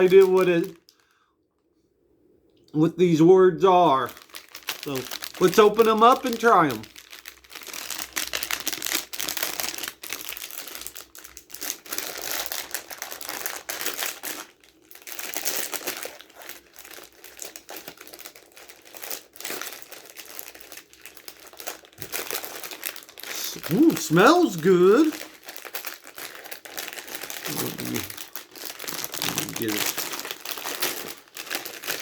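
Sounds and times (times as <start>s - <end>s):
plastic packaging crinkling: 0.0s - 1.0s, 4.0s - 32.0s.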